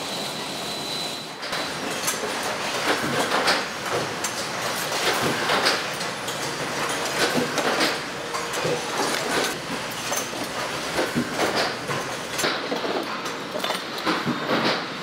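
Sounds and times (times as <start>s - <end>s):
production line machinery running: 0.0s - 15.0s.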